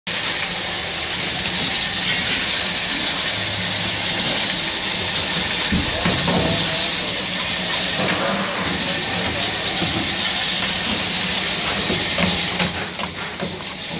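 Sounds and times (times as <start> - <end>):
food boiling and sizzling in pans: 0.1 - 13.9
gas burners hissing: 0.1 - 13.9.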